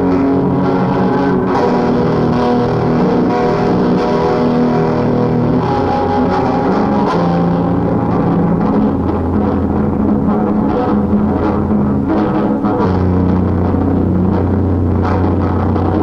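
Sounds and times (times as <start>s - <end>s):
muffled guitar chords: 0.0s - 16.0s.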